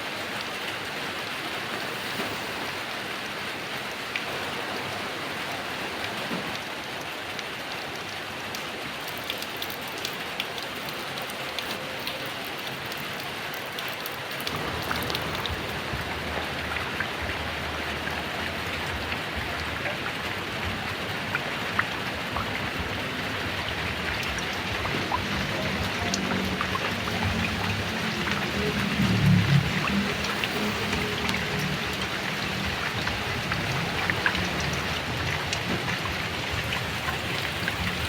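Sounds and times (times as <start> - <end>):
heavy rain: 0.0 - 38.0
raindrops ticking: 6.0 - 38.0.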